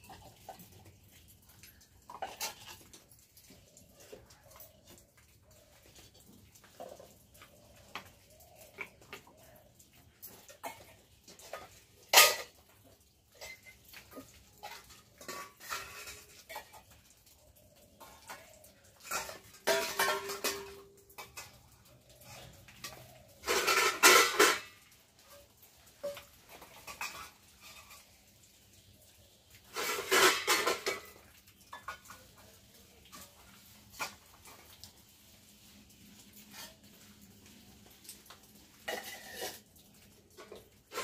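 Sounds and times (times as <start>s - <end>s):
metal dishes clattering: 0.0s - 1.0s, 2.0s - 4.4s, 6.6s - 28.3s, 29.6s - 34.8s, 36.2s - 37.5s, 38.7s - 41.0s.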